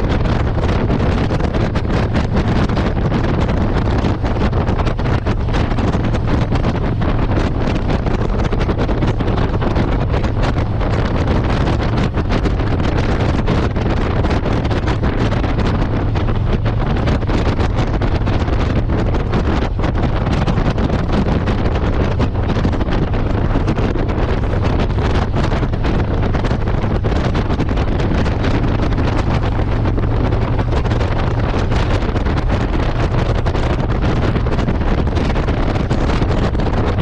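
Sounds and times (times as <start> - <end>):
motorcycle engine running: 0.0 - 37.0
wind buffeting microphone: 0.0 - 37.0.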